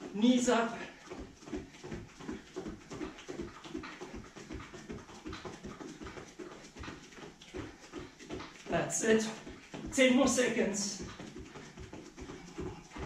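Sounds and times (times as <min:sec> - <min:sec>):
bare feet thudding on floor: 0:00.0 - 0:13.0
hard panting breaths: 0:00.8 - 0:10.0, 0:11.0 - 0:13.0.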